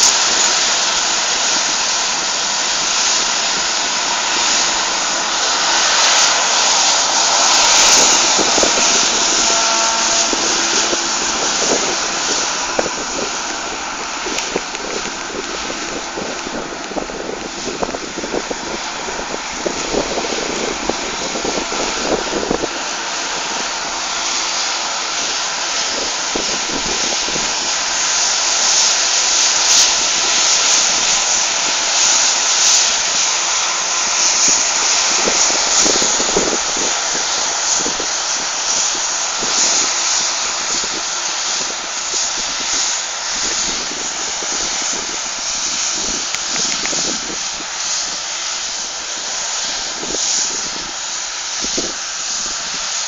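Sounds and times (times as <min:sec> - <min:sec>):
combine harvester engine and threshing drone: 0:00.0 - 0:53.0.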